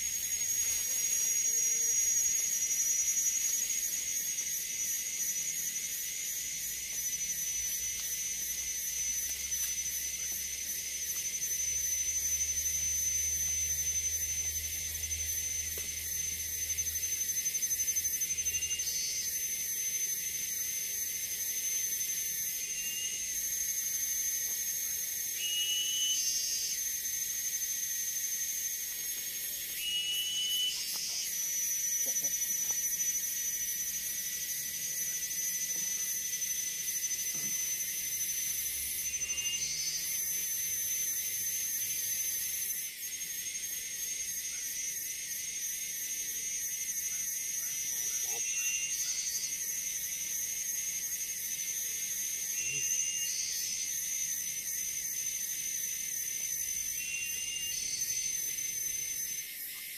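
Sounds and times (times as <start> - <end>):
insect pulsing trills: 0.0 - 59.9
insect short chirps: 0.0 - 59.9
insects high-pitched whine: 0.0 - 59.9.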